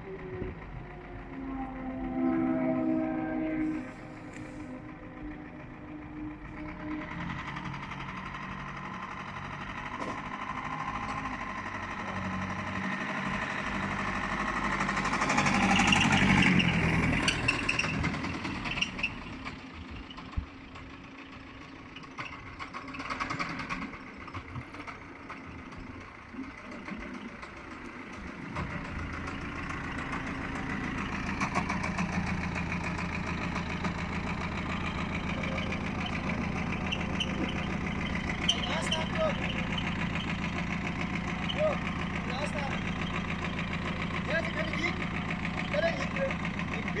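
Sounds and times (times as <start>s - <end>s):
diesel car engine running: 0.0s - 47.0s.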